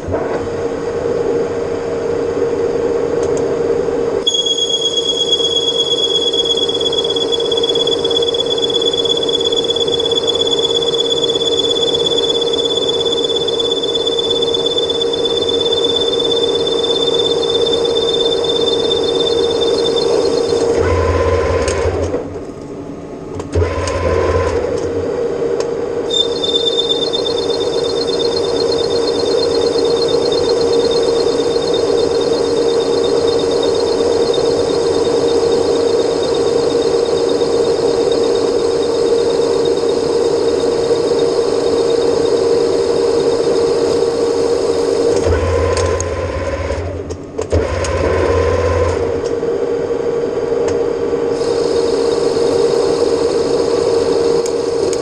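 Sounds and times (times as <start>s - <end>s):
metal lathe whine: 0.0s - 22.4s, 23.5s - 55.0s
thin high whine: 3.8s - 22.1s, 23.7s - 47.0s, 47.8s - 55.0s.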